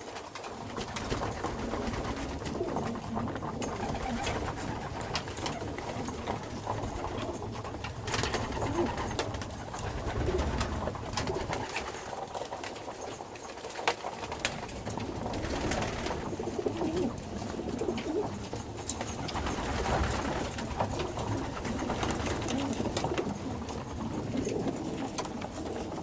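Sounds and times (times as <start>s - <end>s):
pigeons cooing: 0.6s - 13.2s, 14.3s - 26.0s.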